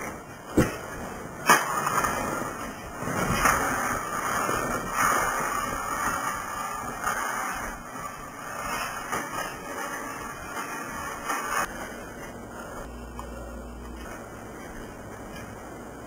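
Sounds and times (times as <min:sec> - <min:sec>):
body dragged over tiled floor: 0:00.0 - 0:16.0.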